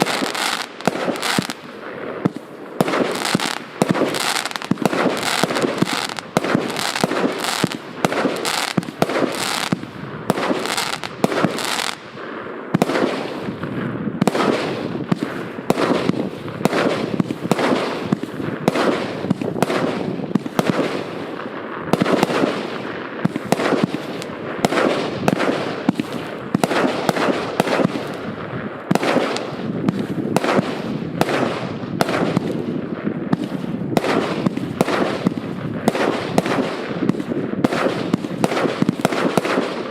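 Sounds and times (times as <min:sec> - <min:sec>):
fireworks launching and bursting: 0:00.0 - 0:39.9.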